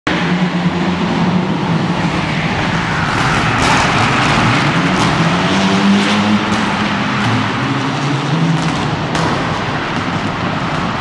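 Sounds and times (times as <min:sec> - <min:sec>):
car engine running hard: 0:00.1 - 0:11.0.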